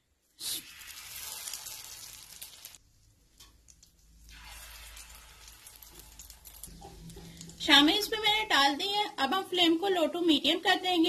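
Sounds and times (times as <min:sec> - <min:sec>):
food sizzling in oil: 0:00.2 - 0:09.2.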